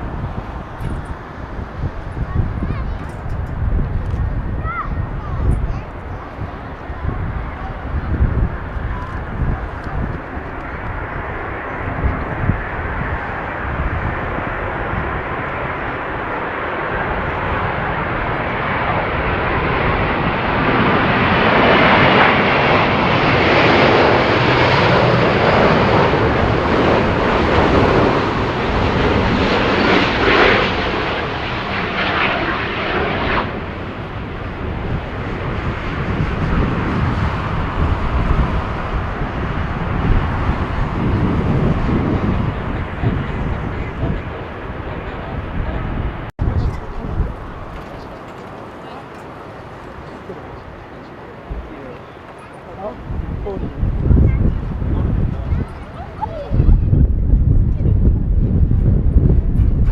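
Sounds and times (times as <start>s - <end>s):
jet airliner engine roar: 0.0s - 59.9s
wind buffeting microphone: 0.0s - 59.9s.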